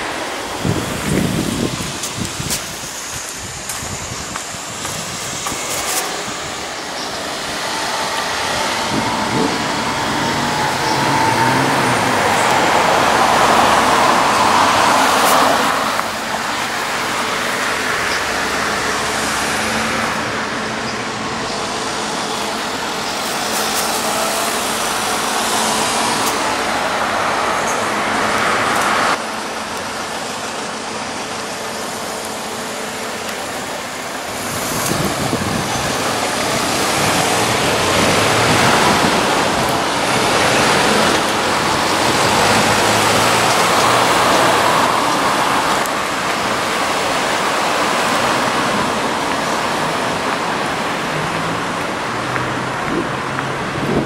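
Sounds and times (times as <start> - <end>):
cars and vans passing: 0.0 - 54.0.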